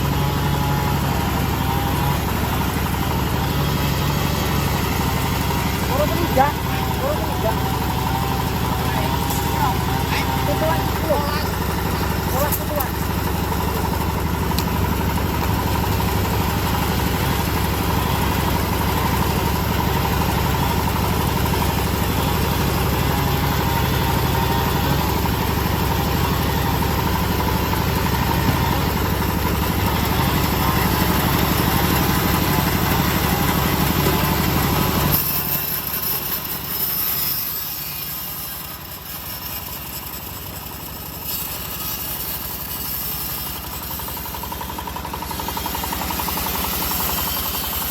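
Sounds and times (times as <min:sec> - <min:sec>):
sawmill engine droning: 0:00.0 - 0:47.9.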